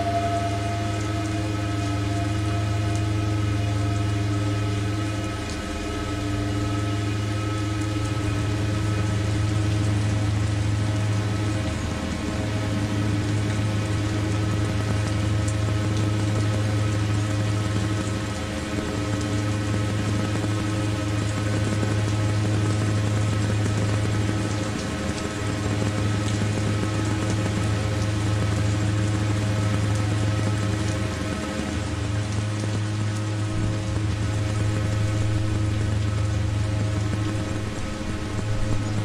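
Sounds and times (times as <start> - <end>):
synthesizer drone: 0.0 - 39.0.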